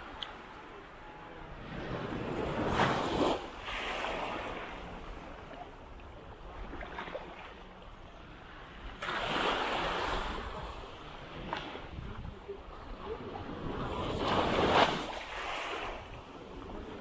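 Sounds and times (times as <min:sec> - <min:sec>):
small waves breaking on beach: 0:00.0 - 0:17.0.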